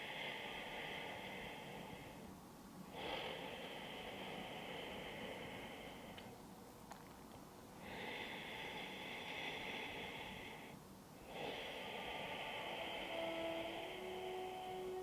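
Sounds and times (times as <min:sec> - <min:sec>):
woman breathing with rasping hiss: 0:00.0 - 0:06.5, 0:07.7 - 0:15.0.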